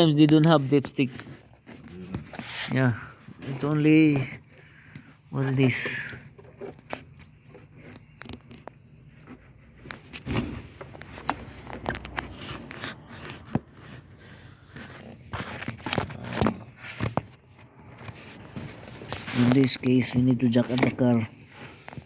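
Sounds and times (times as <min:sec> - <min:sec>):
hands handling engine parts: 0:00.0 - 0:22.0.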